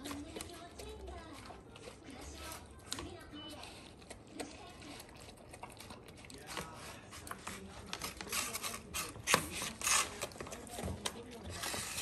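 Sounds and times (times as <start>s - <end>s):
dog licking food box: 0.0s - 12.0s.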